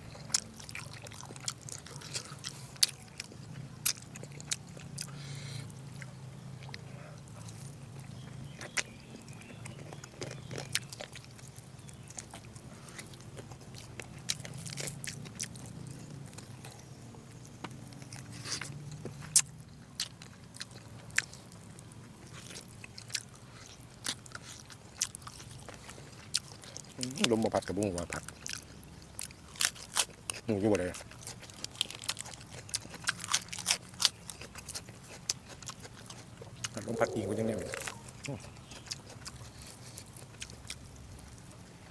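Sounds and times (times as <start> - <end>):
person chewing meat: 0.0 - 41.9.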